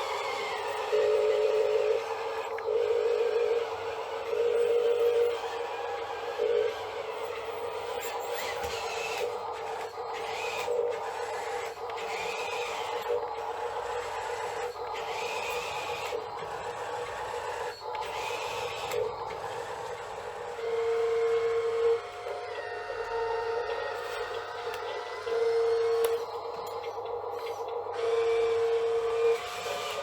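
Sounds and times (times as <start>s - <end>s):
electric motor and pump whine: 0.0s - 30.0s.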